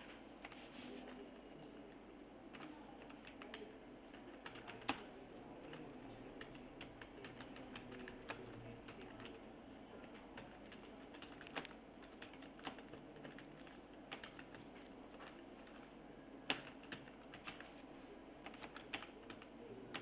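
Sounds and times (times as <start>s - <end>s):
keyboard typing: 2.5s - 9.4s, 10.0s - 17.8s, 18.4s - 20.0s.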